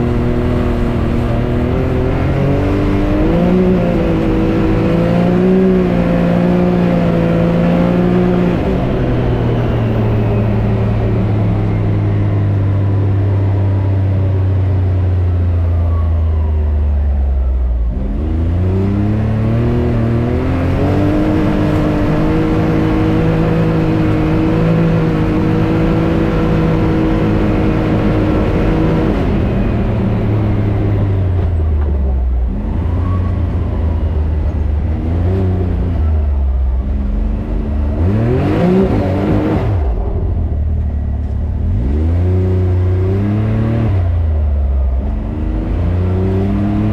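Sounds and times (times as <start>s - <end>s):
turbocharged engine revving: 0.0s - 11.9s, 17.9s - 31.4s, 34.7s - 46.9s.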